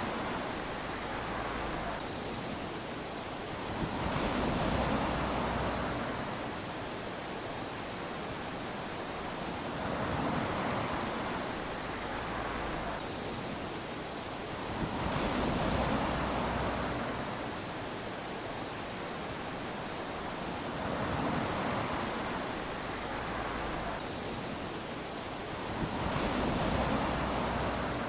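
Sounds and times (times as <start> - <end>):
small waves lapping on sand: 0.0 - 28.0.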